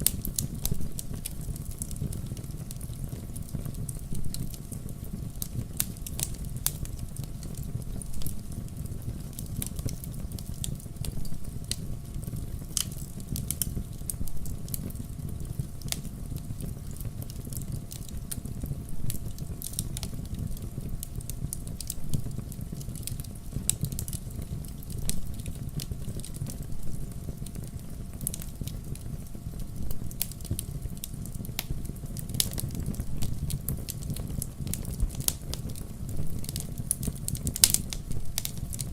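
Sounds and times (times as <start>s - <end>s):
logs crackling and popping: 0.0s - 38.9s
wood fire burning: 0.0s - 38.9s.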